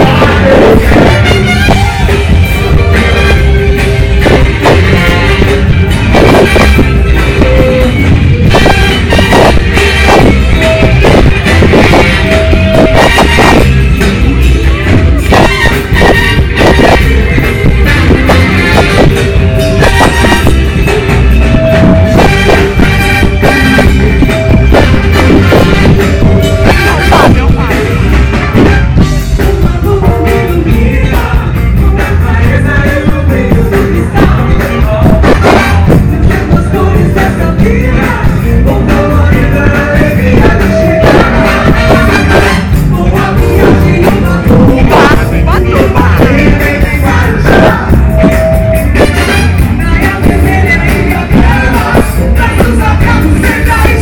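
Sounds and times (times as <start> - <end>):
person singing: 0.0 - 28.4, 29.0 - 54.0
funk band playing: 0.0 - 54.0
steady drum beat: 0.0 - 54.0.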